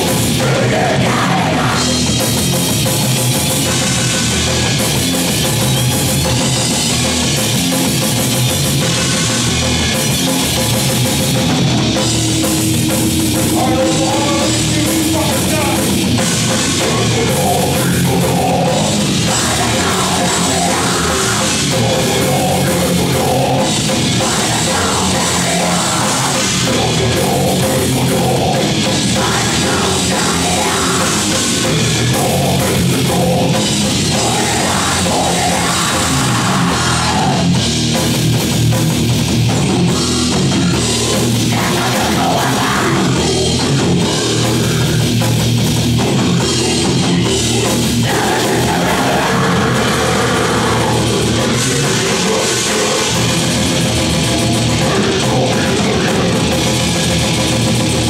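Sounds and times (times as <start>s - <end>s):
drum kit: 0.0s - 58.0s
electric guitars: 0.0s - 58.0s
heavy metal band playing live: 0.0s - 58.0s.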